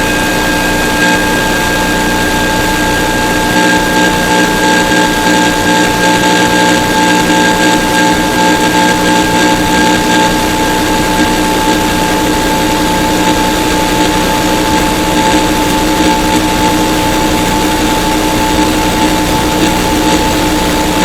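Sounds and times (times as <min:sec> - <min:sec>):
constant buzzing tones: 0:00.0 - 0:21.0
static hiss: 0:00.0 - 0:21.0.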